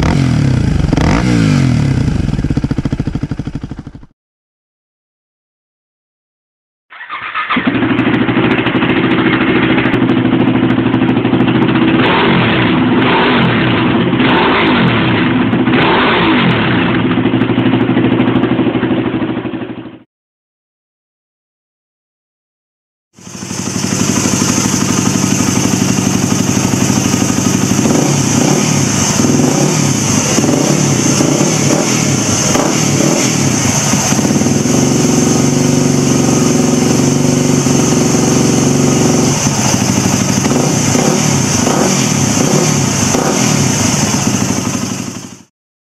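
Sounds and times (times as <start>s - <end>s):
motorcycle engine revving: 0.0s - 4.1s, 6.9s - 20.0s, 23.2s - 45.5s.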